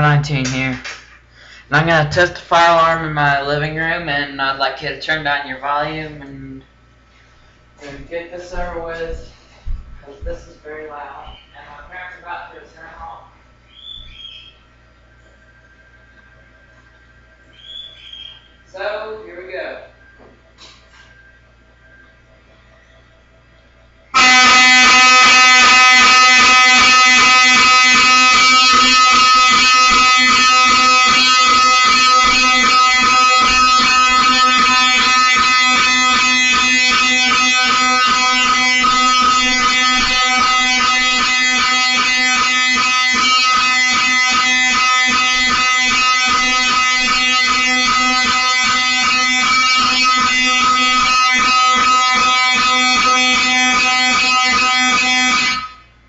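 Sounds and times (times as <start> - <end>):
fire alarm horn buzzing: 0.0 - 7.5, 10.7 - 56.0.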